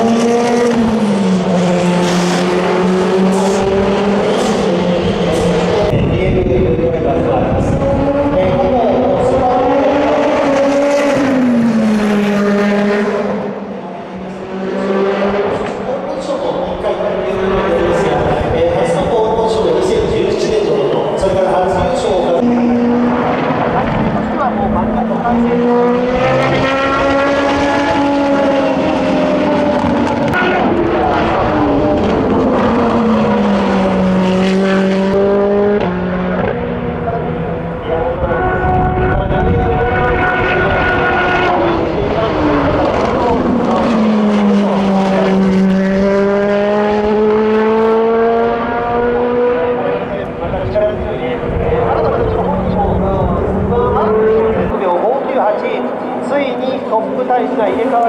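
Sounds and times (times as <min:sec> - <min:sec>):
race car passing at speed: 0:00.0 - 0:58.0.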